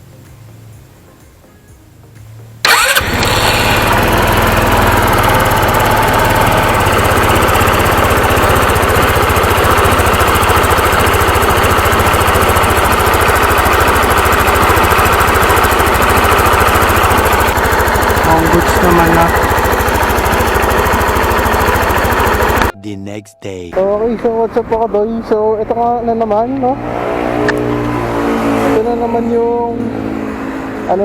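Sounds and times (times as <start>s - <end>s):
motorcycle engine starting and idling: 2.6s - 22.8s, 23.8s - 31.0s.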